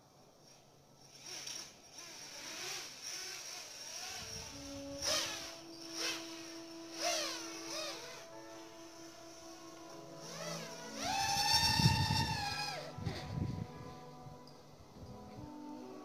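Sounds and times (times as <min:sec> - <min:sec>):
drone motors whining and revving: 0:01.2 - 0:16.0.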